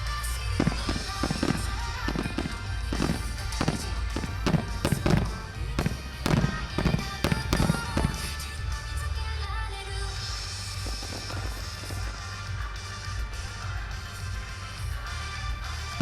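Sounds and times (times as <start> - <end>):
background music: 0.0 - 16.0
fireworks bangs and crackles: 0.0 - 16.0
steady low rumble: 0.0 - 16.0.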